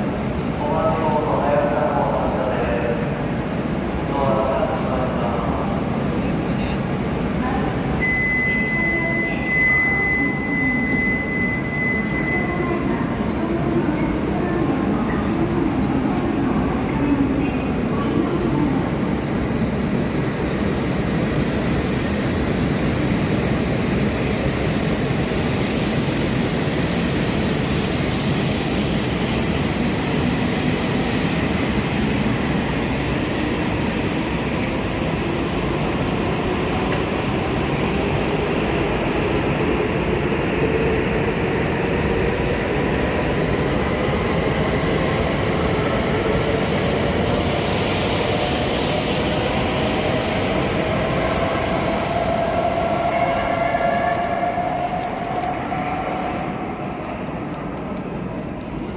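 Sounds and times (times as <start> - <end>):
train rushing rumble: 10.2 - 58.9.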